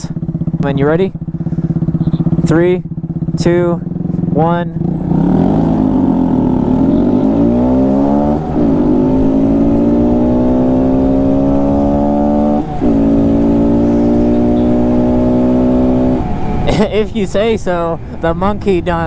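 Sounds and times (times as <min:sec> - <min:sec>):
motorcycle engine accelerating: 0:00.0 - 0:18.2.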